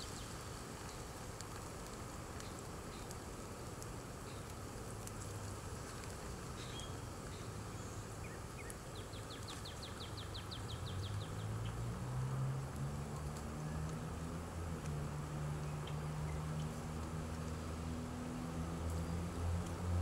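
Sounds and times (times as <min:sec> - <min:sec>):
stove fire rumbling: 0:00.1 - 0:20.0.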